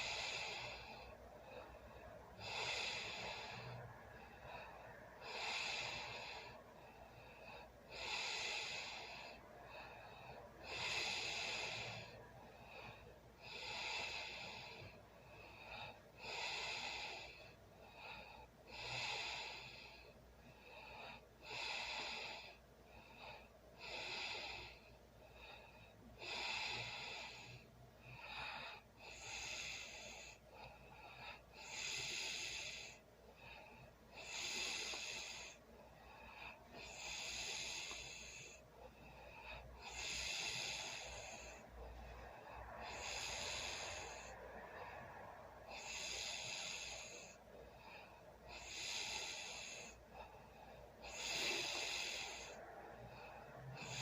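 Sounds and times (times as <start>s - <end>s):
person snoring and breathing heavily: 0.0s - 54.0s.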